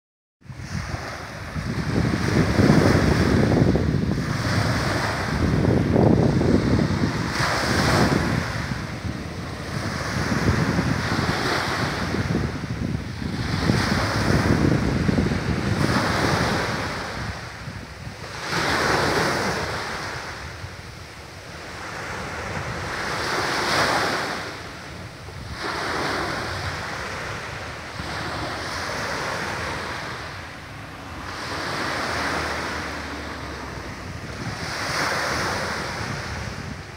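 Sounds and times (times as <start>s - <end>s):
wind buffeting microphone: 0.4s - 36.9s
waves washing up pebbly beach: 0.5s - 36.9s.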